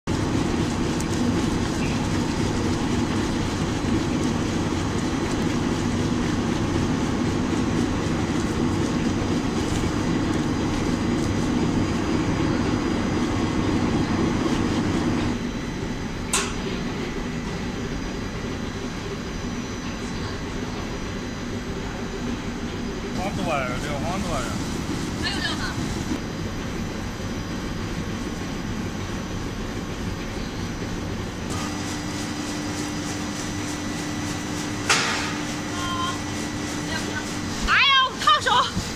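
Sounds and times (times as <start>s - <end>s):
machinery running: 0.1s - 38.9s.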